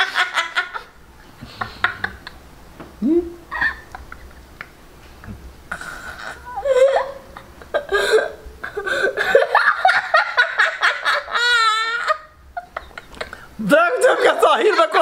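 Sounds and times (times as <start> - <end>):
boy laughing: 0.0 - 2.4, 3.0 - 15.0.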